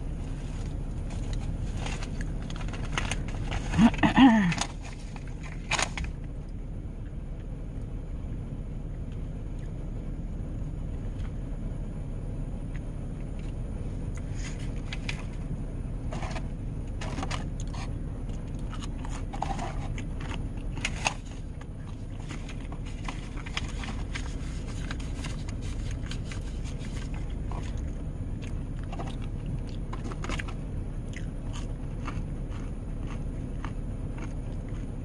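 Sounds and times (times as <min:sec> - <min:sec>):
person chewing fries: 0:00.0 - 0:06.0, 0:12.7 - 0:35.0
car cabin low rumble: 0:00.0 - 0:35.0.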